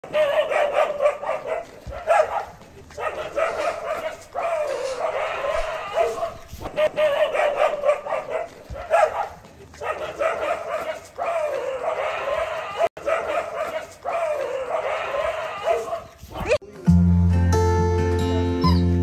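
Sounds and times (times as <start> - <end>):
dogs barking and yelping: 0.0 - 16.6.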